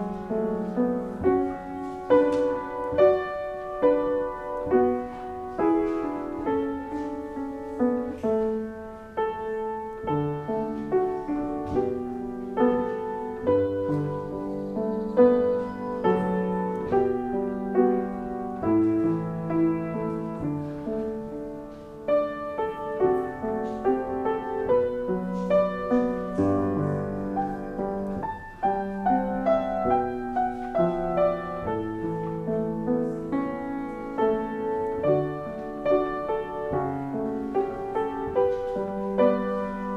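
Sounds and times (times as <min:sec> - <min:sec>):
slow gentle piano piece: 0:00.0 - 0:39.9.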